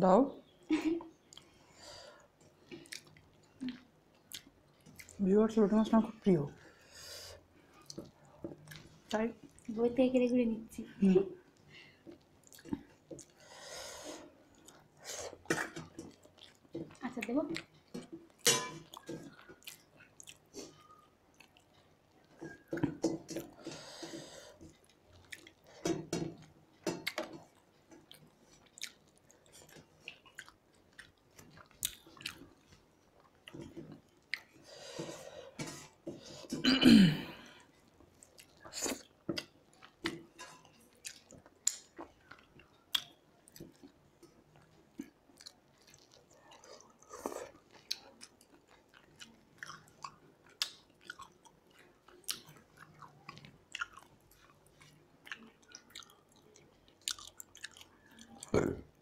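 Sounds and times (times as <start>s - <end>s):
people chewing: 0.7s - 5.2s, 6.6s - 9.8s, 11.0s - 59.0s.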